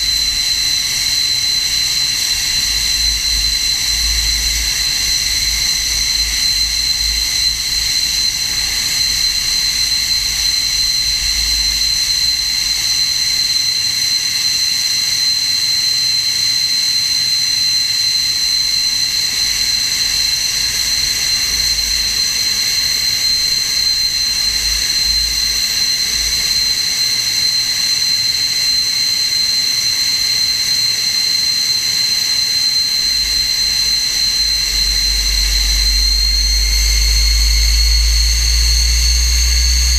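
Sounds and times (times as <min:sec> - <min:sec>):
jet engine low rumble: 0:00.0 - 0:14.0, 0:18.2 - 0:39.9
jet engine high whine: 0:00.0 - 0:39.9.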